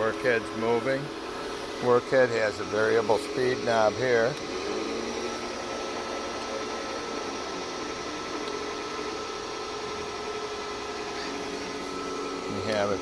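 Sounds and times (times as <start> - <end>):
grinder machine hum and whine: 0.0 - 13.0.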